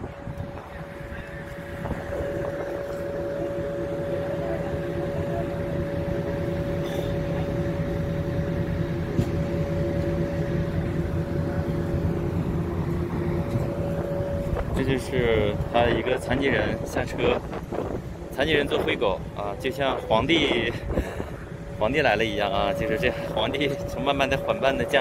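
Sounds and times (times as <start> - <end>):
low hum of stopped coach: 0.0 - 25.0.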